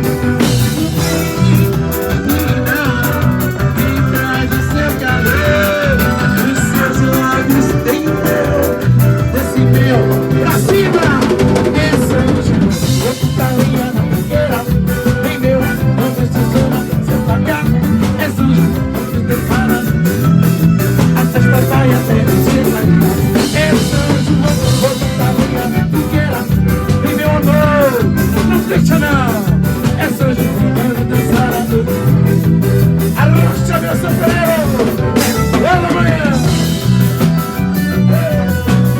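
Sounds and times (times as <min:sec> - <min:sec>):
drum kit: 0:00.0 - 0:38.9
guitar playing: 0:00.0 - 0:38.9.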